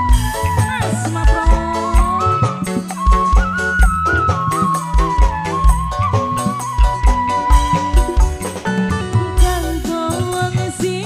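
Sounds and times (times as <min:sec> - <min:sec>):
held high melody note: 0:00.0 - 0:09.8
steady low drum beat: 0:00.0 - 0:11.0.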